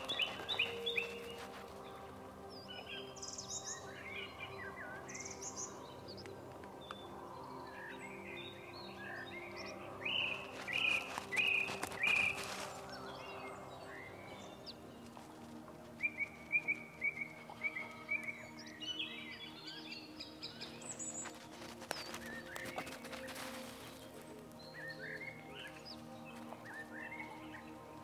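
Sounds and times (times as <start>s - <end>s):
low hum of sustained tones: 0.0s - 28.0s
songbirds singing and chirping: 0.0s - 28.0s.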